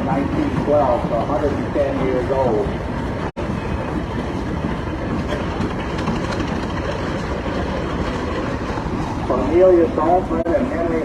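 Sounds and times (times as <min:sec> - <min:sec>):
outdoor background noise: 0:00.0 - 0:11.0
tractor engine running: 0:00.0 - 0:11.0.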